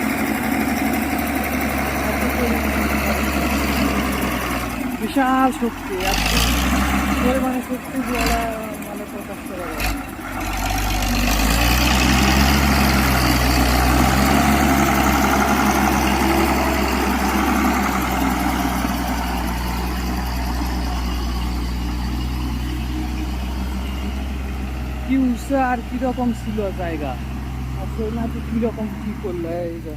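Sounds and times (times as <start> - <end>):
diesel engine running under load: 0.0 - 29.9.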